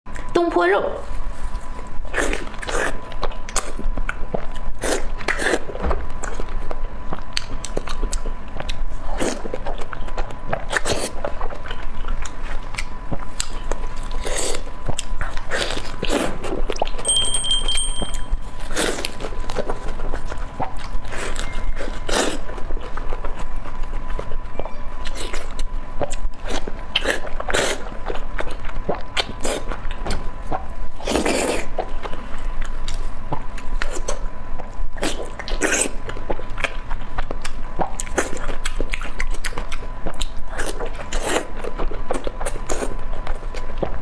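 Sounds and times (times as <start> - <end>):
biting and chewing: 1.4 - 44.0.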